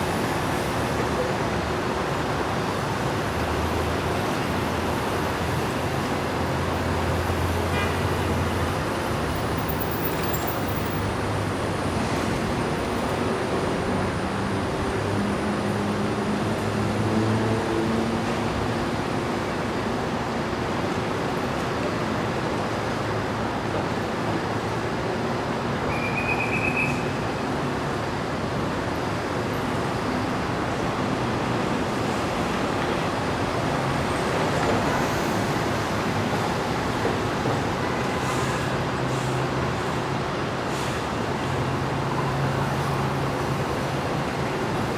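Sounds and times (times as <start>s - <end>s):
city street traffic: 0.0s - 44.9s
passing vehicles' engines humming: 0.0s - 44.9s.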